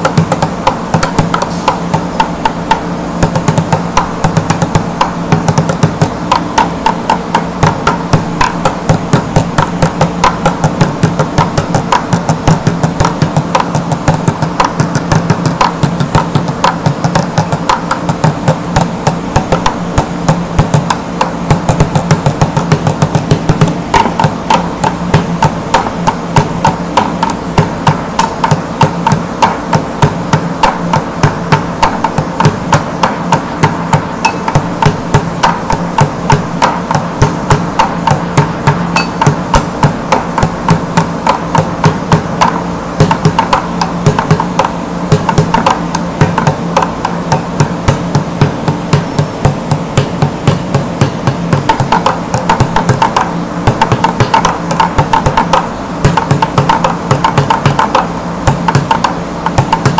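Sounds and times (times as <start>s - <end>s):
bucket drumming: 0.0s - 59.9s.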